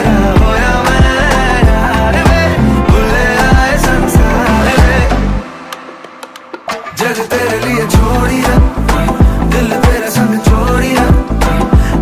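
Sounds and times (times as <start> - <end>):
latin afrobeat style music: 0.0 - 12.0.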